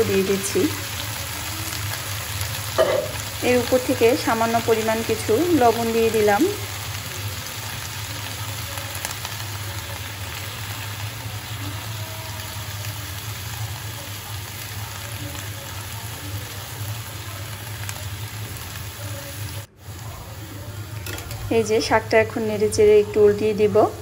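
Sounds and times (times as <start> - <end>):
leaves sizzling in a pot: 0.0 - 24.0.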